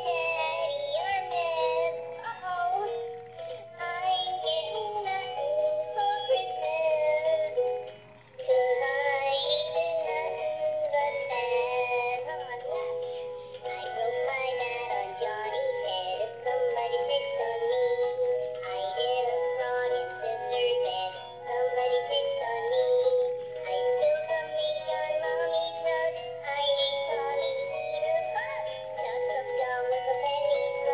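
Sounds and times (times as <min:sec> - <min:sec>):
plush toy singing: 0:00.0 - 0:30.9.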